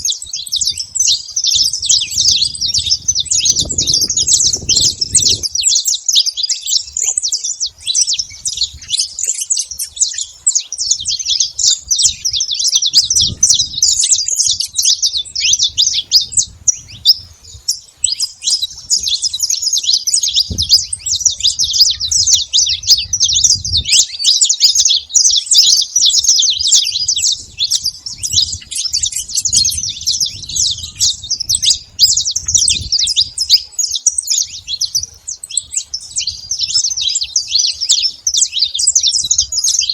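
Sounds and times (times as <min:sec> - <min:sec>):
finch singing chirps and trills: 0:00.0 - 0:39.9.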